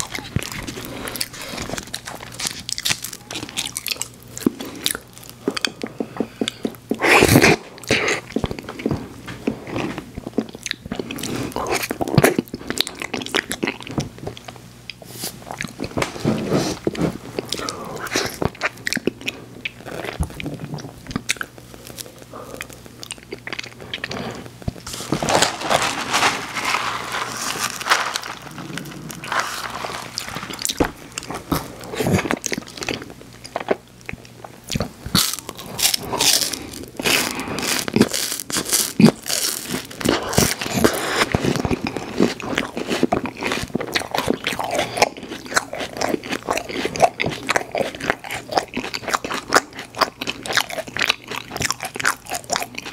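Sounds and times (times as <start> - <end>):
crunching of wafer cone: 0.0 - 5.8, 15.2 - 52.9
chewing and mouth sounds: 0.0 - 25.0, 27.7 - 52.9.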